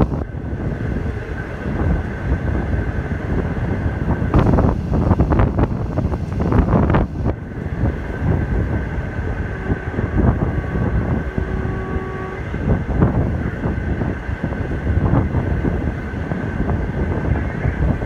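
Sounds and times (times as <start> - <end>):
train wheels rumbling on rail: 0.0 - 18.0
wind rushing past microphone: 0.0 - 18.0.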